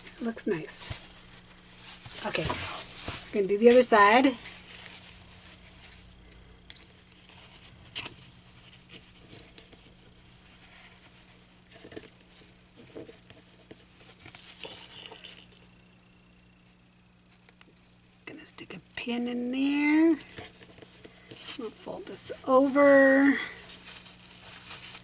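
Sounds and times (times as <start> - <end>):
fabric rustling and crinkling: 0.0 - 15.5, 19.6 - 25.0.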